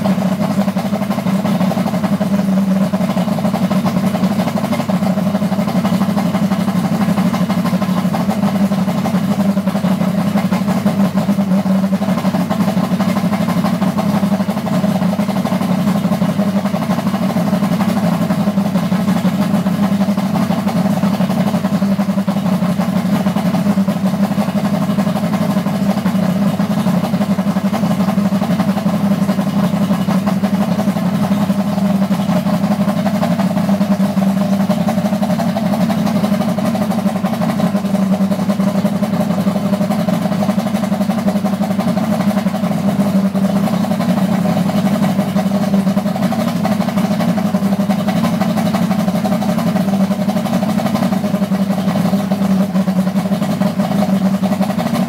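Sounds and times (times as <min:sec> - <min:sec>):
outboard engine running: 0:00.0 - 0:55.0.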